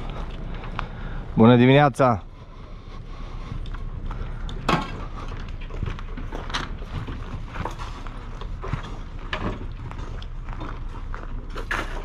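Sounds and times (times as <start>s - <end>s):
footsteps on gravel: 2.2s - 12.0s.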